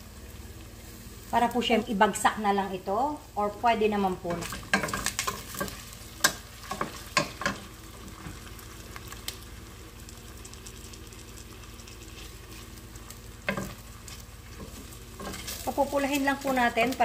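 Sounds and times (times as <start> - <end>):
meatballs and onions sizzling in oil: 0.0 - 17.0.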